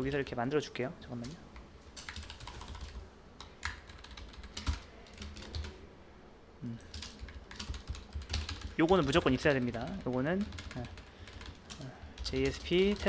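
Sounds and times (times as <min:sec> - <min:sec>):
computer keyboard typing: 0:01.1 - 0:05.8, 0:06.6 - 0:13.0.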